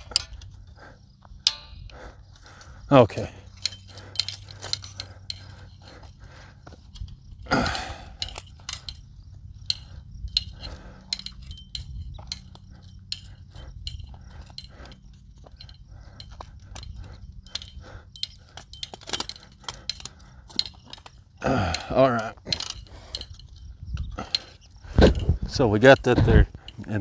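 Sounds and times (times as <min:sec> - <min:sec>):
steady low rumble: 0:00.0 - 0:27.0
wire stretcher metallic clicks: 0:00.0 - 0:27.0.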